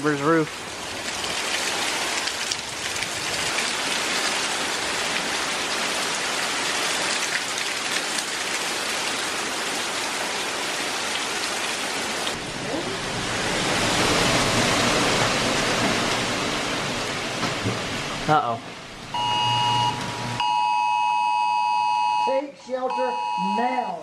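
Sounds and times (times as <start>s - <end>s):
heavy wind-driven rain: 0.0s - 20.4s.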